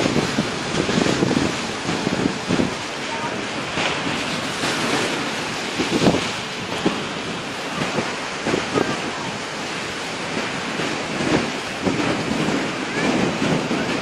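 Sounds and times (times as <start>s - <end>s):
sea waves breaking: 0.0s - 14.0s
wind gusting on microphone: 0.0s - 14.0s.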